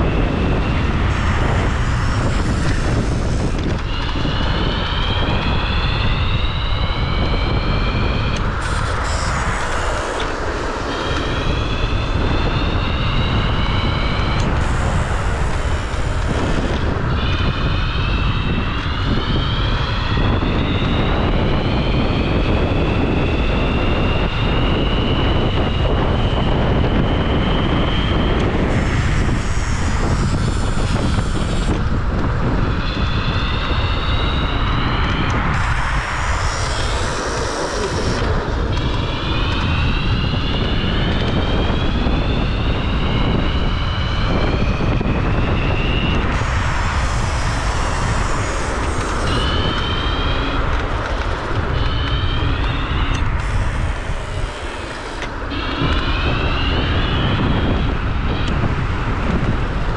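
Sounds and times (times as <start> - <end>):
electric scooter motor whining: 0.0 - 59.9
wind noise on microphone: 0.0 - 59.9.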